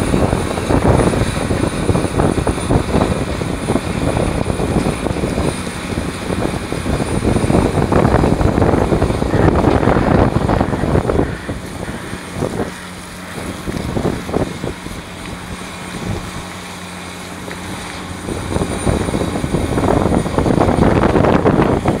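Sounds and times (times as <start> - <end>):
crusher engine hum: 0.0 - 22.0.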